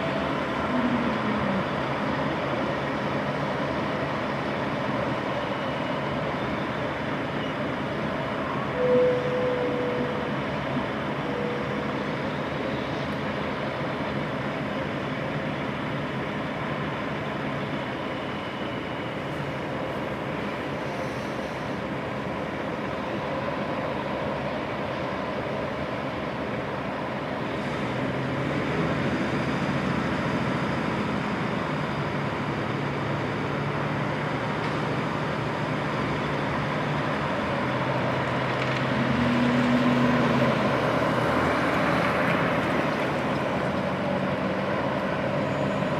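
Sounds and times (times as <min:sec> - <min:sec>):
diesel truck engine droning: 0:00.0 - 0:45.9.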